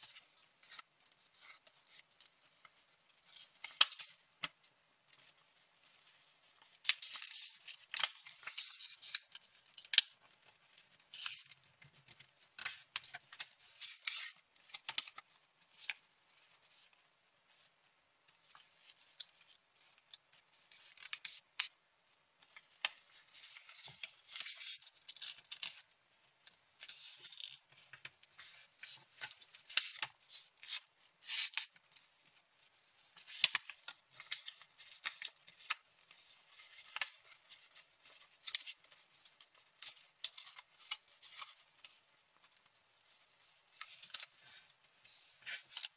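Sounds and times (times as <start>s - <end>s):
paper rustling and crackling: 0.0s - 45.9s.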